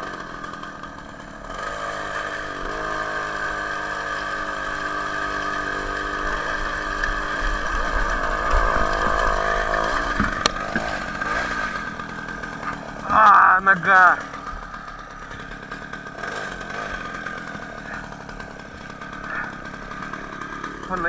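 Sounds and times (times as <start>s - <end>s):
two-stroke engine running: 0.0s - 21.0s.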